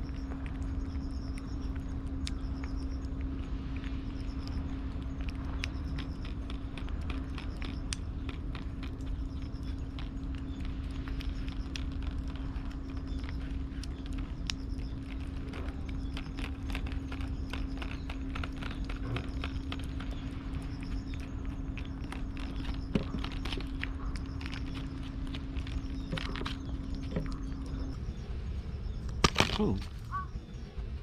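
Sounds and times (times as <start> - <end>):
cat crunching dry food: 0.0 - 28.0.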